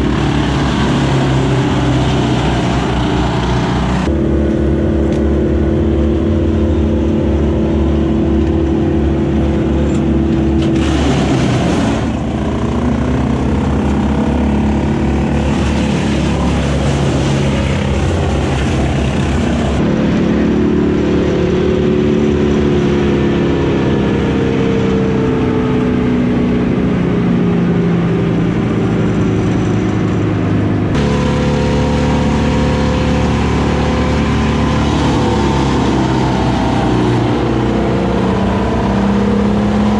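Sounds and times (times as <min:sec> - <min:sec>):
heavy machinery engines running: 0:00.0 - 0:39.9.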